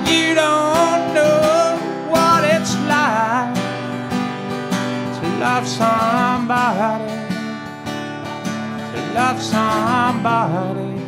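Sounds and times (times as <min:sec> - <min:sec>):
man singing: 0:00.0 - 0:04.0, 0:05.0 - 0:07.6, 0:08.6 - 0:11.0
acoustic guitar strumming: 0:00.0 - 0:11.0.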